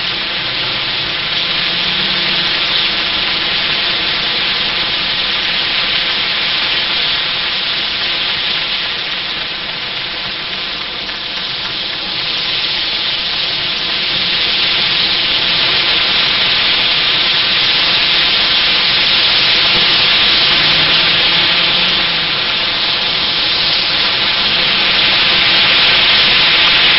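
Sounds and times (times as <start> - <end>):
tyres hissing on wet road: 0.0 - 26.9.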